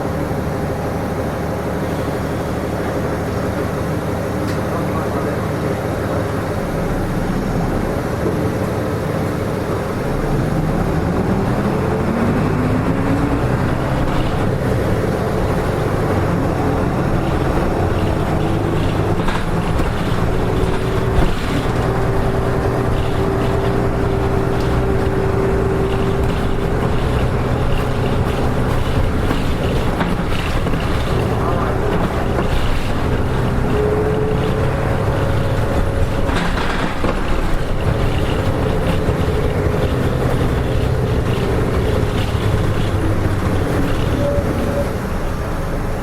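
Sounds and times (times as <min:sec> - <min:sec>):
bus diesel engine pulling away: 0:00.0 - 0:46.0.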